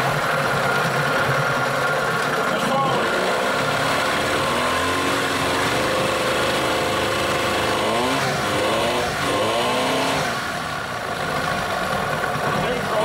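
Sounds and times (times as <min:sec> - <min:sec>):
outboard engine running: 0:00.0 - 0:13.0
propeller churning water: 0:00.0 - 0:13.0.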